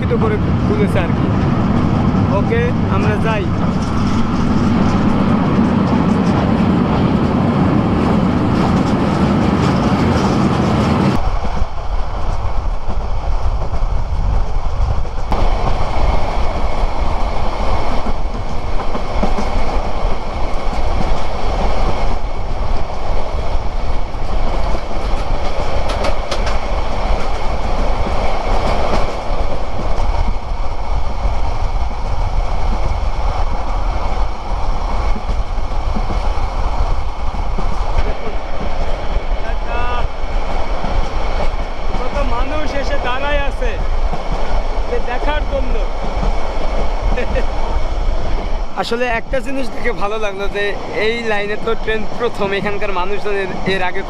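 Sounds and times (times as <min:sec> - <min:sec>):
train rail noise and wind: 0:00.0 - 0:54.0.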